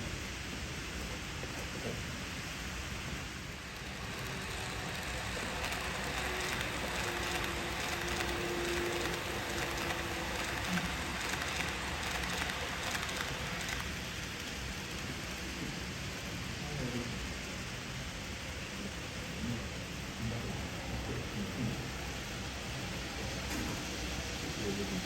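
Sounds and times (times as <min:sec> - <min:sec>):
faint motor whine: 0:00.0 - 0:25.0
model train wheels hissing on rail: 0:00.0 - 0:25.0.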